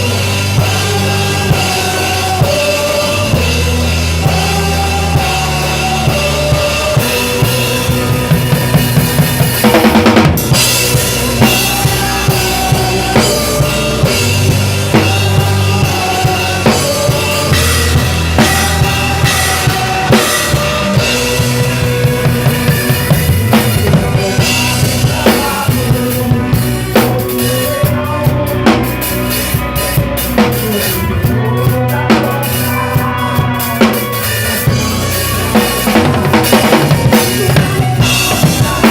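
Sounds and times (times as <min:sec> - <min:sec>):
acoustic drum kit: 0:00.0 - 0:38.9
worship song music: 0:00.0 - 0:38.9.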